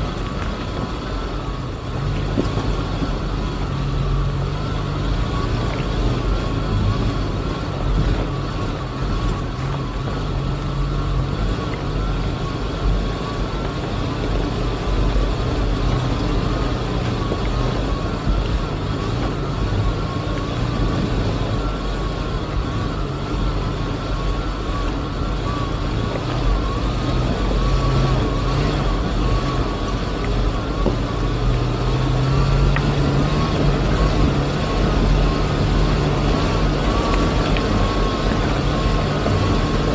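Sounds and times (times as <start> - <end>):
drone propellers whining: 0.0 - 39.9
low rumble: 0.0 - 39.9.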